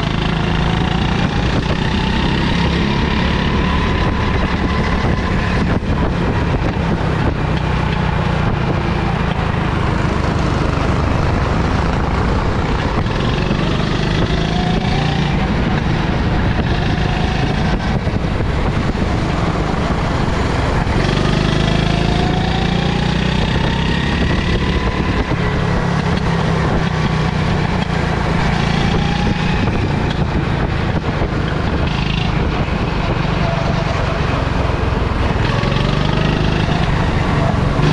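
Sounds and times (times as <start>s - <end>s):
go-kart engine revving: 0.0s - 37.9s
steady rushing noise: 0.0s - 37.9s.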